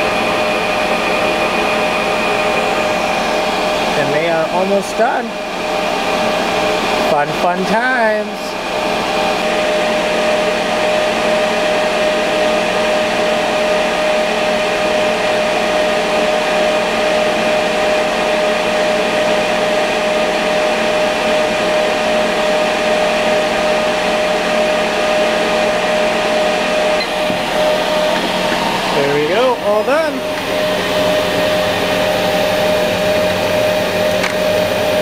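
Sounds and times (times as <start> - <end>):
laser cutter running: 0.0 - 35.0.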